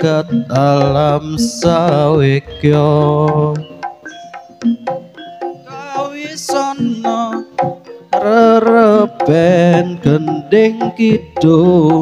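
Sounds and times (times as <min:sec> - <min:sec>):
person singing: 0:00.0 - 0:03.8, 0:05.7 - 0:12.0.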